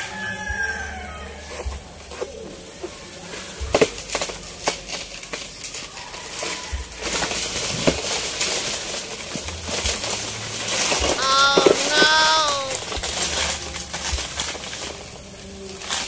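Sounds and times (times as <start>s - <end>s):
dry banana leaves rustling: 1.6s - 11.2s, 11.8s - 16.0s.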